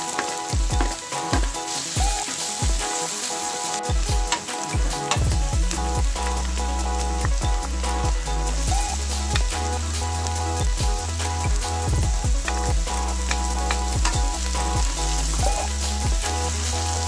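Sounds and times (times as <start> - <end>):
background music with low beat: 0.0 - 17.0
onion sizzling in oil: 0.0 - 17.0.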